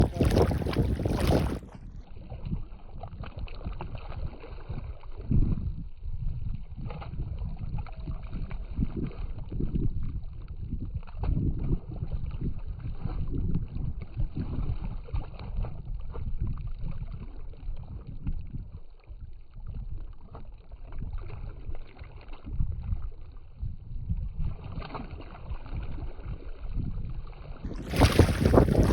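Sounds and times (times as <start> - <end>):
wind rumbling on microphone: 0.0 - 28.9.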